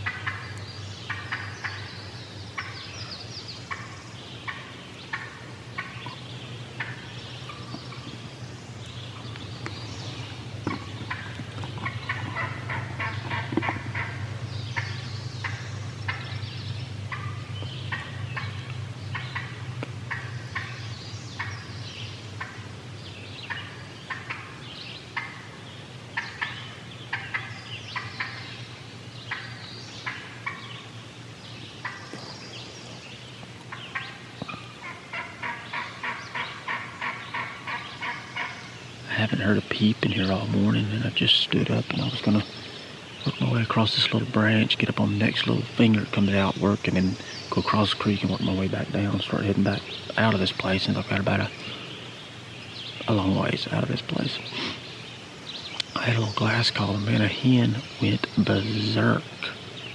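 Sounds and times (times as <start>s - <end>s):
turkey hen calling: 0.0s - 59.9s.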